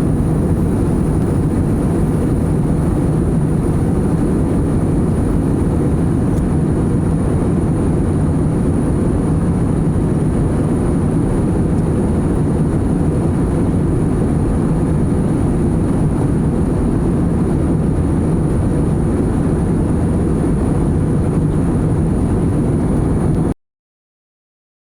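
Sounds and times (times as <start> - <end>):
airliner cabin roar: 0.0 - 23.6.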